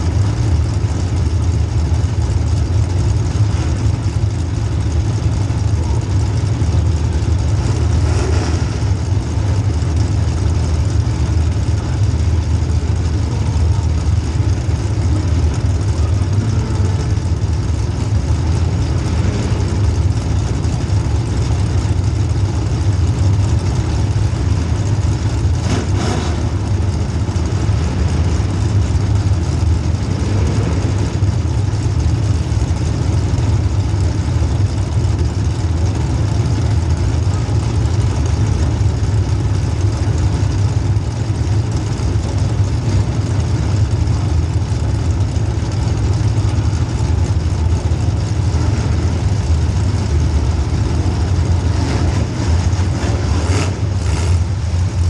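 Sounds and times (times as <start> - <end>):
car engine low rumble: 0.0 - 55.0.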